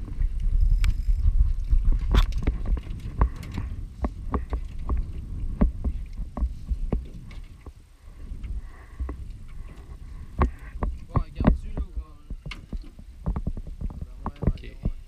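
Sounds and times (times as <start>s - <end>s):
wind buffeting microphone: 0.0s - 15.0s
water slapping metal boat hull: 1.6s - 15.0s.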